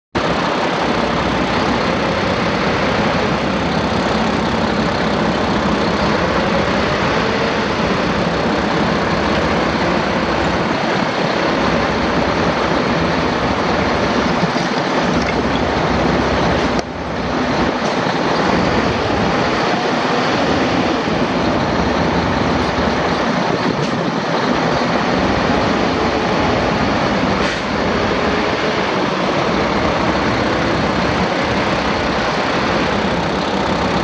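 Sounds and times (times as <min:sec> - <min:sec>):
diesel truck engine idling: 0:00.2 - 0:34.0.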